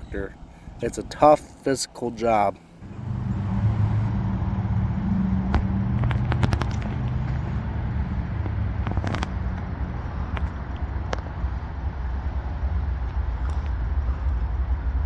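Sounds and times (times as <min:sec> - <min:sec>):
diesel locomotive engines droning: 0:00.0 - 0:15.0.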